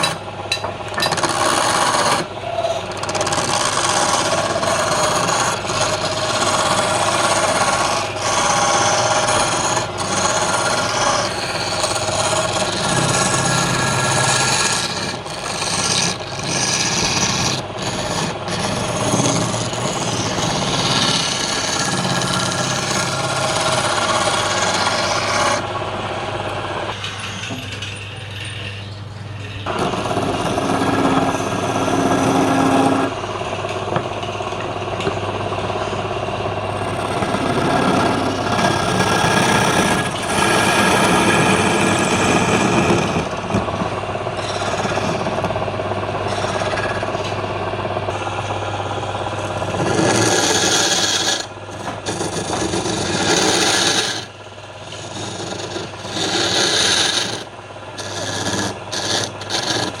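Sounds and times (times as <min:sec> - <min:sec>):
lathe motor hum: 0:00.0 - 1:00.0
tool scraping spinning wood: 0:00.0 - 1:00.0.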